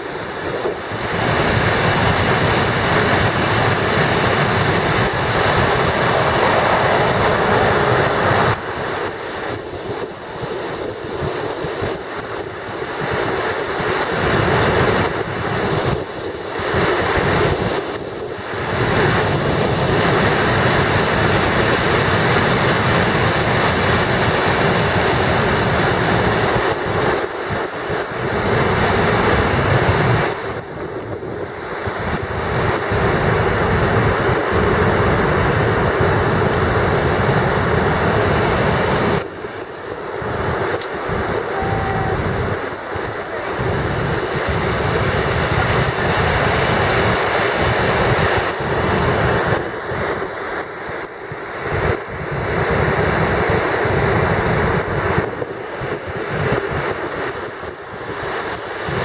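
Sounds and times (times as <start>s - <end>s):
waterfall rushing: 0.0s - 30.7s, 31.5s - 50.5s.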